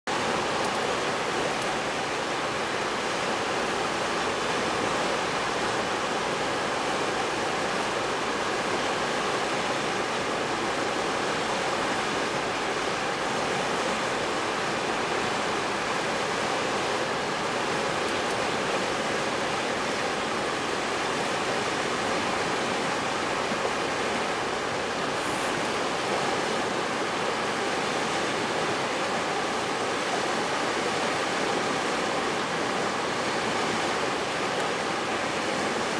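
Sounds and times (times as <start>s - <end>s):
river water rushing: 0.1s - 35.9s.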